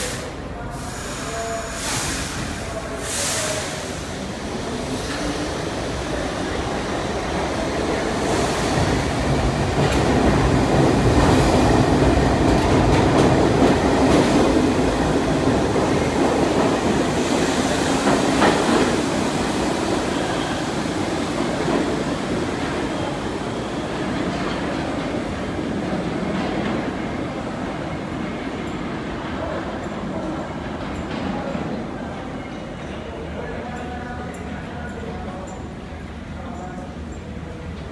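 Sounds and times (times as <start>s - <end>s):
subway train rumbling: 0.0s - 37.9s.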